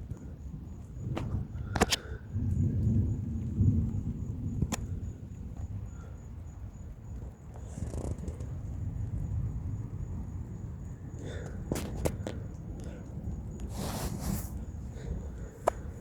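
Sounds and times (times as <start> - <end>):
thunder rumbling: 0.5 - 16.0.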